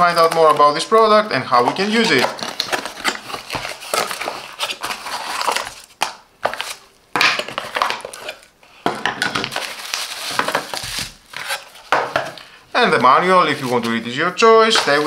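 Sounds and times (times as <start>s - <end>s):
cardboard scraping and rustling: 0.0s - 6.8s, 9.3s - 15.0s.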